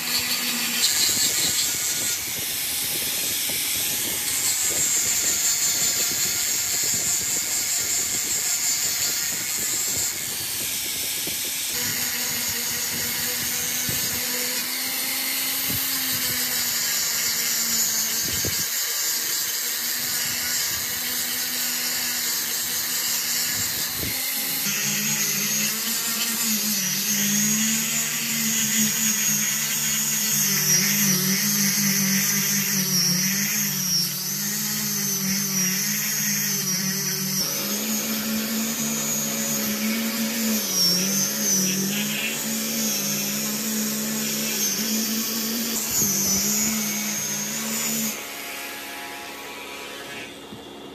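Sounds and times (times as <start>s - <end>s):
angle grinder sanding wood: 0.0s - 50.9s.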